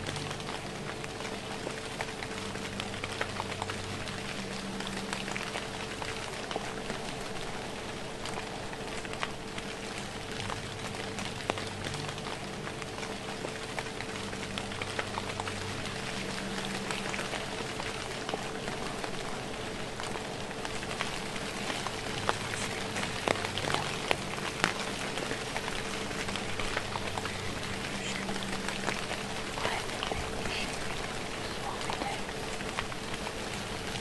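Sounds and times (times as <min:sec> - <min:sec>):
faint steady hum: 0:00.0 - 0:34.0
light drizzle pattering: 0:00.0 - 0:34.0.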